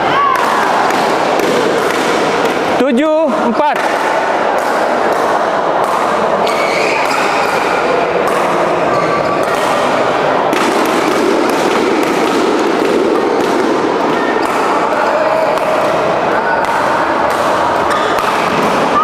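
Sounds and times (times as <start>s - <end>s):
chatter in sports hall: 0.0s - 19.0s
racket hitting shuttlecock: 0.3s - 2.8s, 3.8s - 19.0s.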